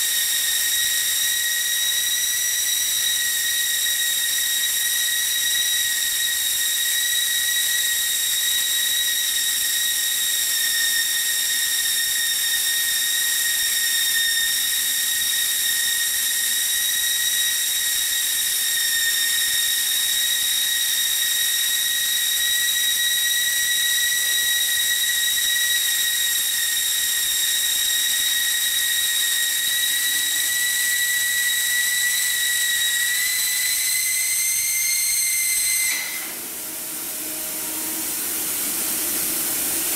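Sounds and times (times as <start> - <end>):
hot air welding machine whining: 0.0 - 39.9.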